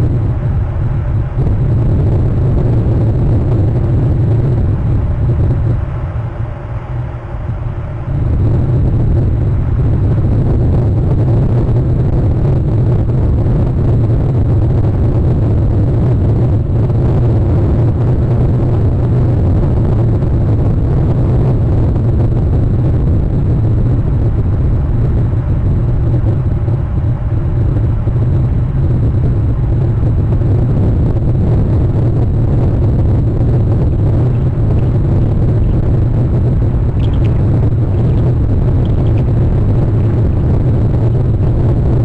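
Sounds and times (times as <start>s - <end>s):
loud low rumble: 0.0s - 42.0s.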